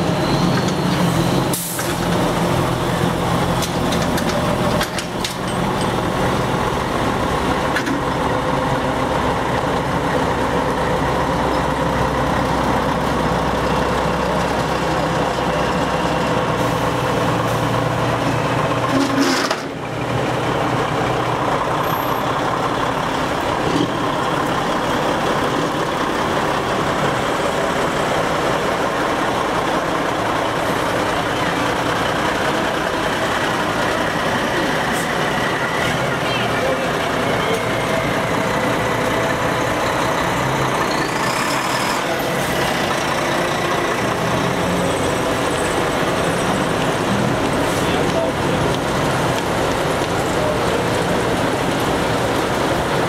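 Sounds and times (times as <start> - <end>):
lorry diesel engines running: 0.0 - 53.0.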